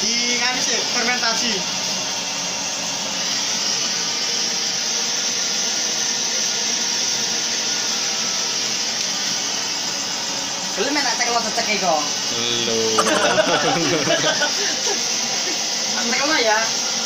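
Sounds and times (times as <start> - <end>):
gas burner hissing rush: 0.0 - 17.0.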